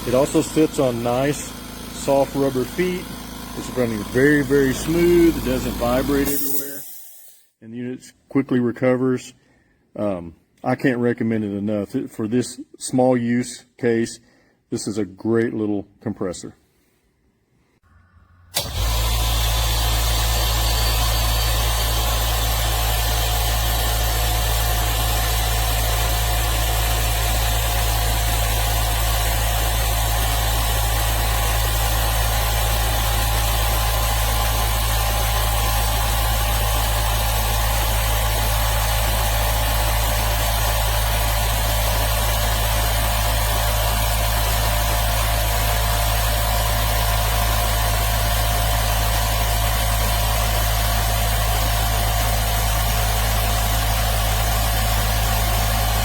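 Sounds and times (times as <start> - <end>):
air compressor running: 0.0 - 7.5, 17.8 - 56.0.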